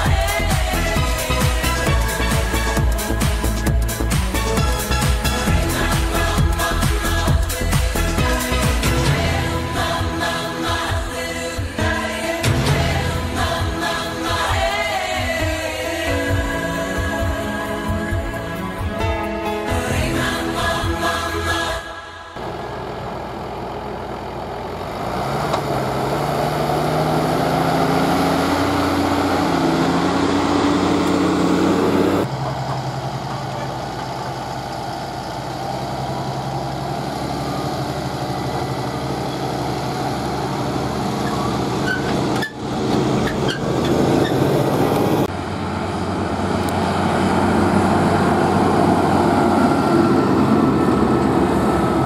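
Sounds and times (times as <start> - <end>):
tractor diesel engine running: 0.0 - 20.5, 22.4 - 52.0.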